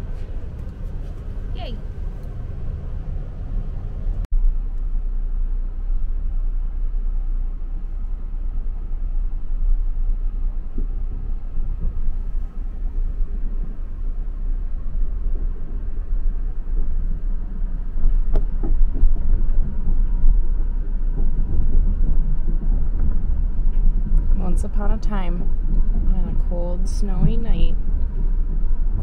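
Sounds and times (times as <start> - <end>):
train rumbling from inside: 0.0 - 29.0.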